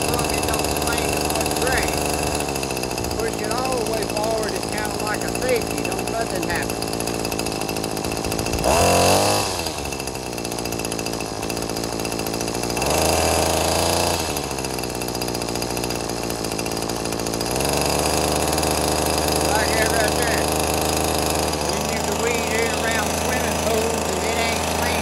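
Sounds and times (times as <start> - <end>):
string trimmer engine revving: 0.0 - 25.0.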